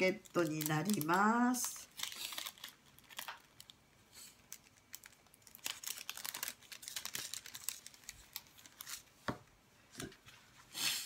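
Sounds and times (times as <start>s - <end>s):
paper and plastic rustling: 0.2s - 9.3s.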